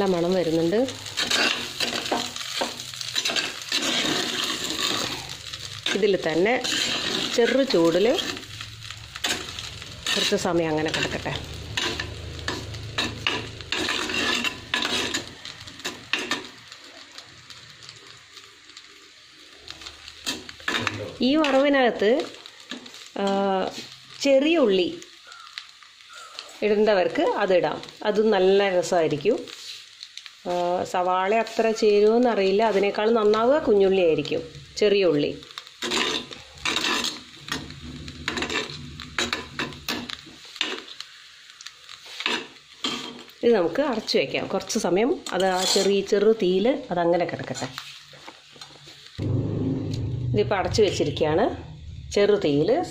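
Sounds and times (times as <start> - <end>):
faint sizzle: 0.0 - 52.9.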